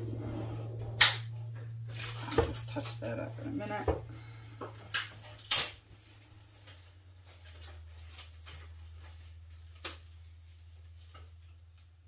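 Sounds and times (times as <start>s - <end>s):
steady low room hum: 0.0s - 12.0s.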